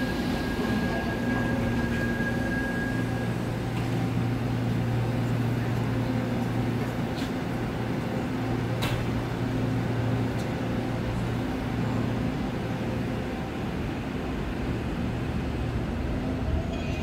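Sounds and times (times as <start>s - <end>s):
railway platform rumble: 0.0s - 17.0s.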